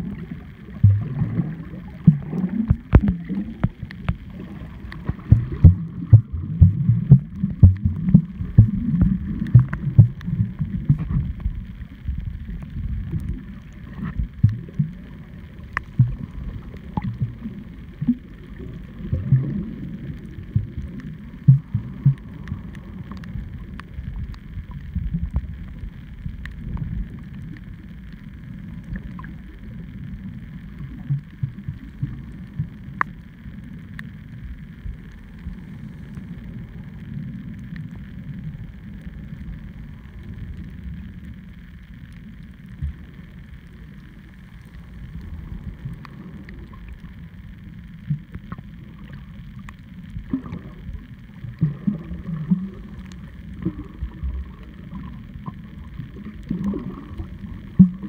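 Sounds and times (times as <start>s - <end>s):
muffled underwater water rushing: 0.0s - 58.0s.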